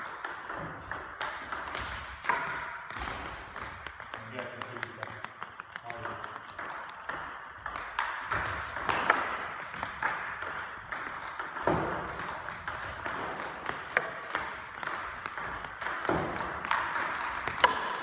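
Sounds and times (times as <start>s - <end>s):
table tennis balls pinging: 0.0s - 18.0s.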